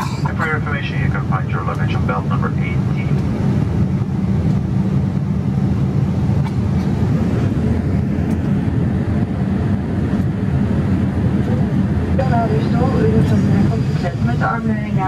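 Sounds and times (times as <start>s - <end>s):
airliner cabin engine and airflow rush: 0.0s - 15.0s.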